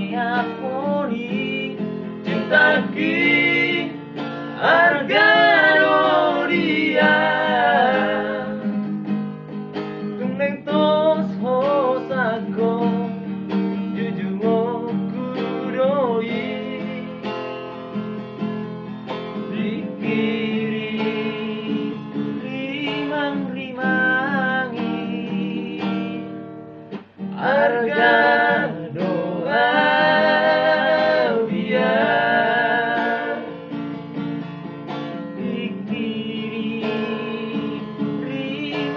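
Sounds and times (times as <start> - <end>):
men singing: 0.0 - 8.8, 10.2 - 13.2, 13.9 - 17.3, 19.4 - 26.4, 27.3 - 33.8, 35.1 - 38.9
strummed acoustic guitar: 0.0 - 38.9.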